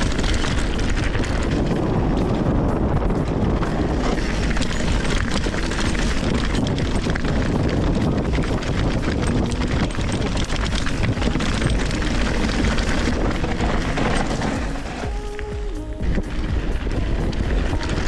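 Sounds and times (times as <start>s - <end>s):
bicycle rattles and clicks: 0.0s - 18.0s
wind rushing over microphone: 0.0s - 18.0s.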